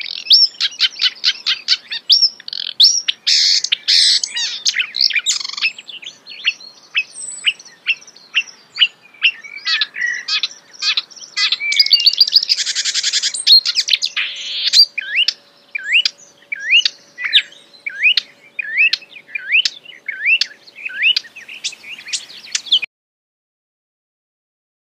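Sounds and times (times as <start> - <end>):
songbird singing: 0.0 - 22.9.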